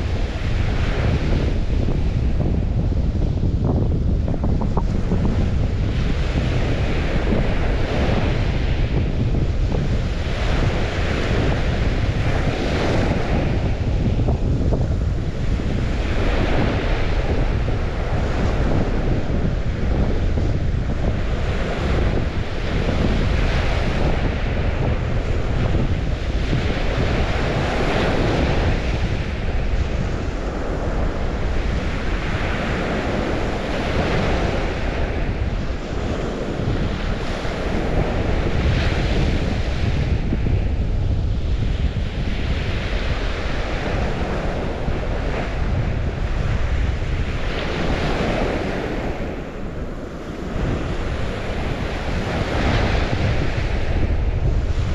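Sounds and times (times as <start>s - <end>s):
wind rumbling on microphone: 0.0s - 54.9s.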